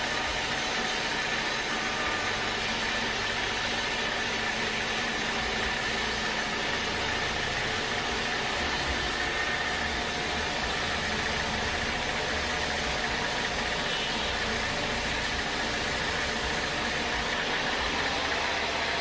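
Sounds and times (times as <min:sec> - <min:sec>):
sawmill machinery drone: 0:00.0 - 0:19.0.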